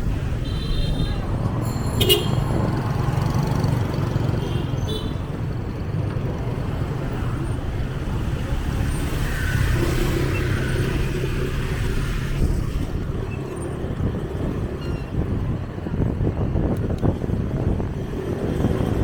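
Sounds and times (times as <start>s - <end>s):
road noise: 0.0s - 19.0s
vehicles passing close by: 0.0s - 19.0s.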